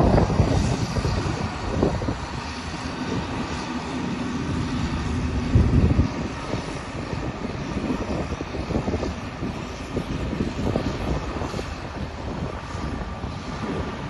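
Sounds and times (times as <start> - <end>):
diesel engine of grader: 0.0 - 14.0.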